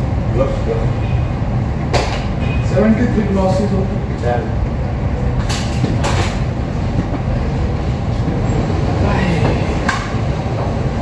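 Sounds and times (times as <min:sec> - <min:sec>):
ventilation fans rumbling: 0:00.0 - 0:11.0.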